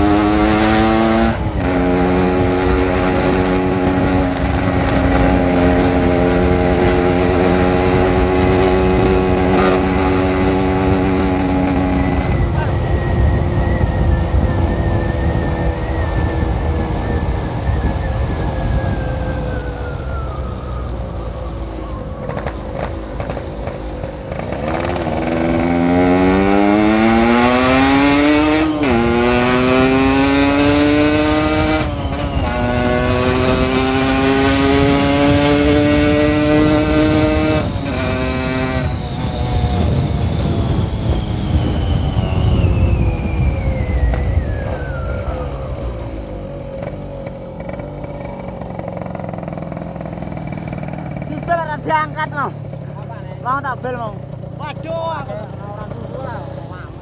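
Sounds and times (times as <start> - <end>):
two-stroke motorcycle engine revving: 0.0 - 18.5, 22.2 - 57.0.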